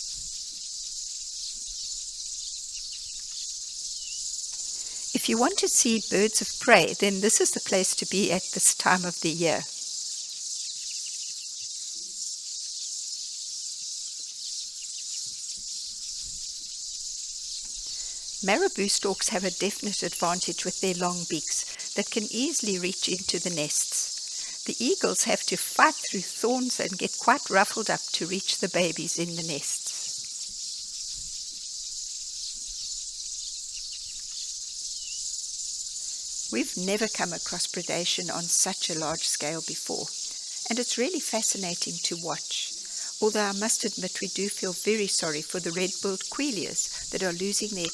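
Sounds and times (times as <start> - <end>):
faint bird chirp: 0.0 - 47.9
high-pitched insect drone: 0.0 - 47.9
shrill wildlife chorus: 0.0 - 47.9.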